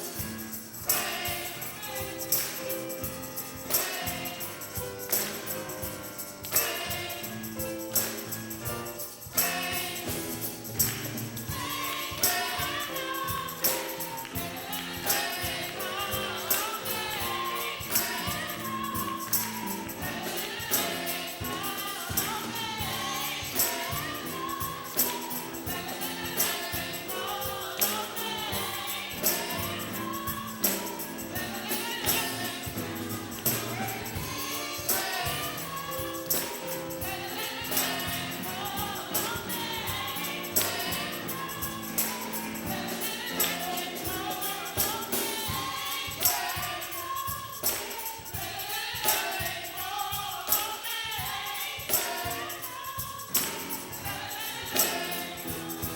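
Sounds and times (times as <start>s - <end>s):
choir singing gospel music: 0.0s - 55.9s
tambourine striking a beat: 0.0s - 55.9s.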